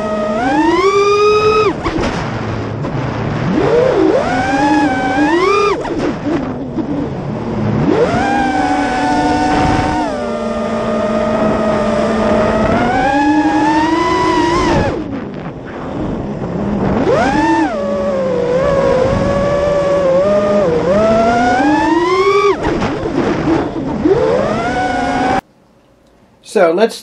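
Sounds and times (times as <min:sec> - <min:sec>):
quadcopter motors whining: 0:00.0 - 0:02.1, 0:03.4 - 0:25.4.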